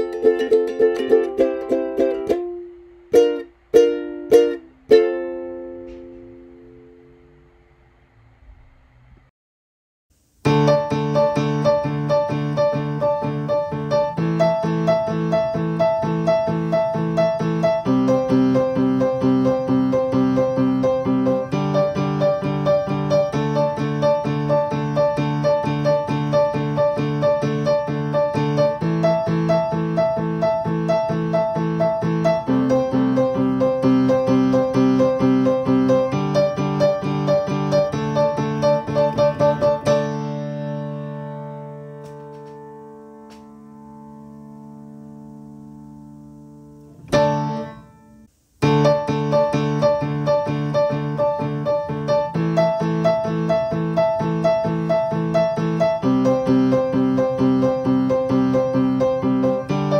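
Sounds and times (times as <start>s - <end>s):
piano music: 0.0s - 7.4s, 10.4s - 59.9s.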